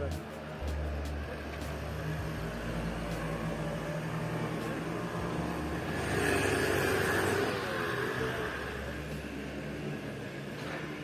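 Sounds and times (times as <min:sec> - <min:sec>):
street traffic: 0:00.0 - 0:11.0
car passing: 0:00.4 - 0:11.0.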